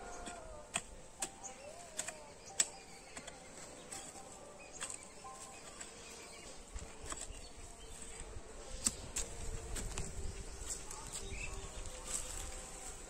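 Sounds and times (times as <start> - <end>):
faint insect buzz: 0.0 - 13.0
hoe digging dry soil: 0.0 - 13.0.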